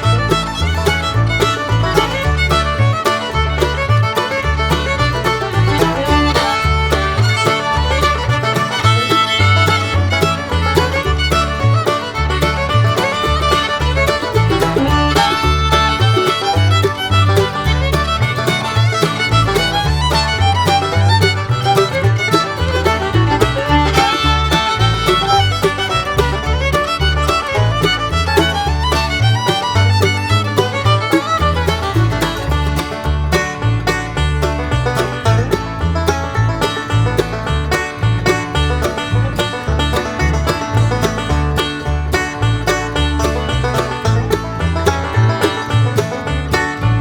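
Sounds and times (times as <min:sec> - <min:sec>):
bluegrass music with fiddle: 0:00.0 - 0:47.0
walking bass: 0:00.0 - 0:47.0.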